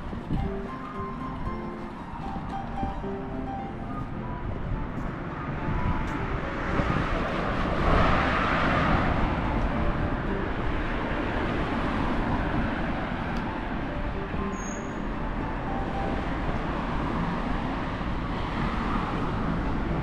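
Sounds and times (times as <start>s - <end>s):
road vehicle passing: 0.0s - 20.0s
steady traffic noise: 0.0s - 20.0s.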